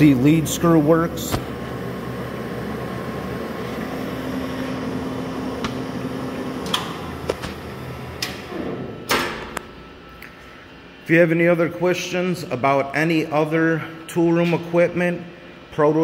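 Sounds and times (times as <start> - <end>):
lathe mechanical hum: 0.0 - 16.0.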